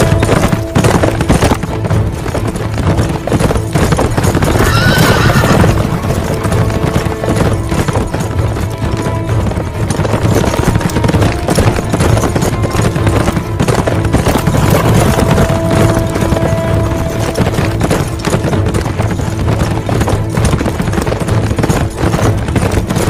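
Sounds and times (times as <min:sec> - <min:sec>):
dramatic film score: 0:00.0 - 0:23.0
horse hoofbeats galloping on dirt: 0:00.0 - 0:23.0.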